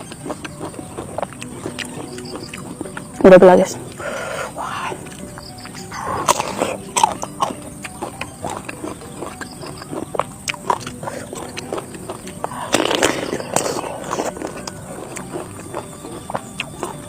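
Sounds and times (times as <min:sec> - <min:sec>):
person chewing and lip smacking: 0:00.0 - 0:17.0.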